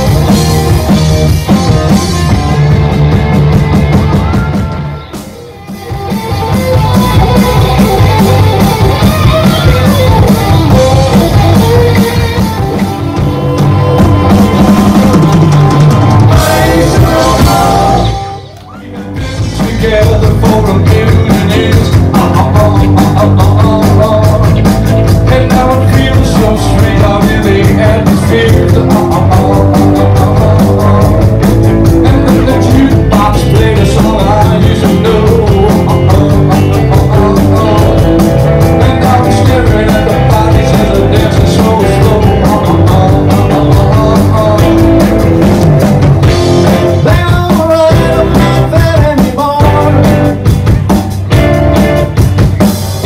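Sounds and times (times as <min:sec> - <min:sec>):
drum kit beat: 0:00.0 - 0:53.0
rock band playing: 0:00.0 - 0:53.0.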